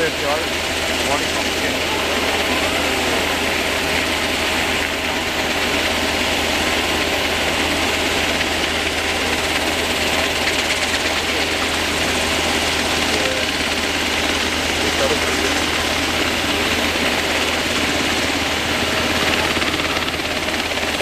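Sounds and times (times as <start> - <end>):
helicopter hovering: 0.0 - 21.0.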